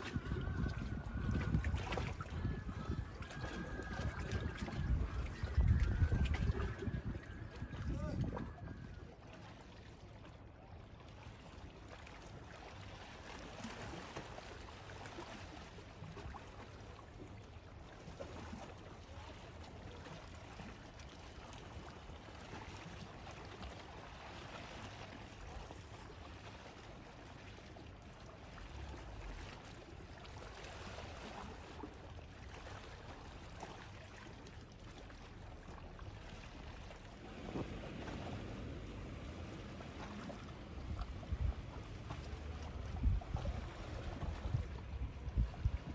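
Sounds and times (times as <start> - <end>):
faint wind: 0.0 - 45.9
water noise: 0.0 - 45.9.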